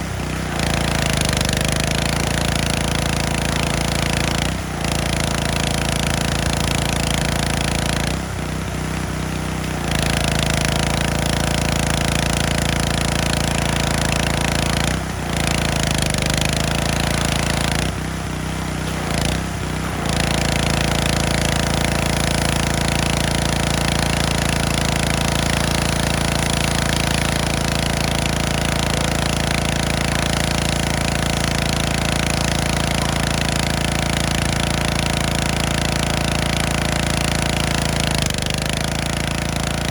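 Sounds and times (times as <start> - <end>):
pressure washer spraying metal: 0.0 - 39.9.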